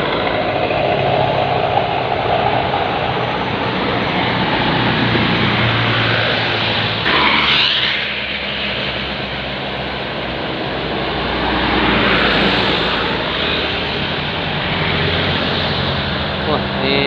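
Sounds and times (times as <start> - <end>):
diesel bus engine passing: 0.0 - 17.0
tyre and road noise: 0.0 - 17.0.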